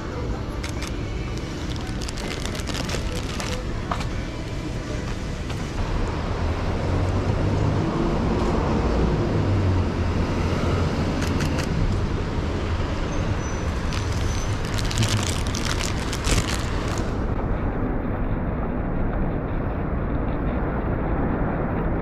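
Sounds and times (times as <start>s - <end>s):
passing cars rumbling: 0.0s - 22.0s.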